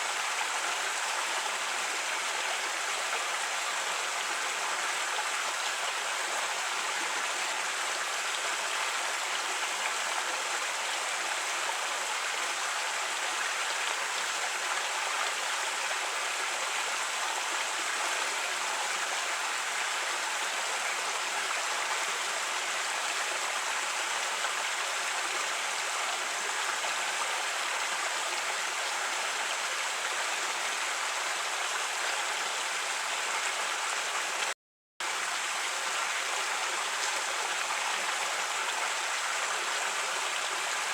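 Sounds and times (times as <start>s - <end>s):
creek water flowing over rocks: 0.0s - 40.9s.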